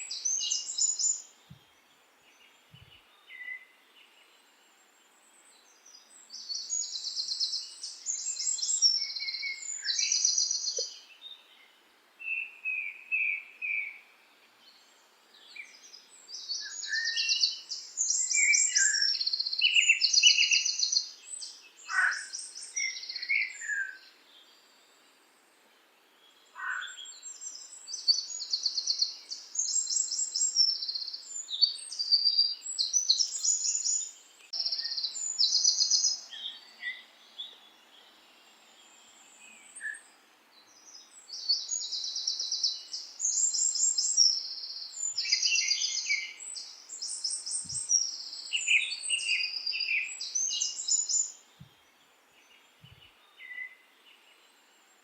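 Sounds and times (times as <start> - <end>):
songbirds trilling: 5.7 - 11.7, 14.7 - 24.5, 26.2 - 54.6.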